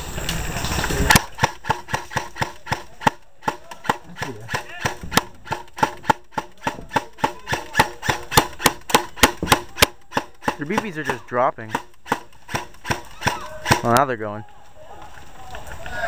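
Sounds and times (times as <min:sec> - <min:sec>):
airsoft rifle shots: 0:01.0 - 0:14.1.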